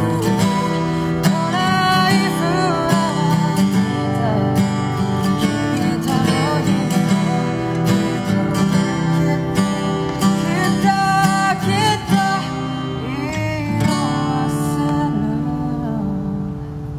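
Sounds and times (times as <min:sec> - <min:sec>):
acoustic guitar strumming: 0:00.0 - 0:16.9
person singing: 0:00.0 - 0:16.9.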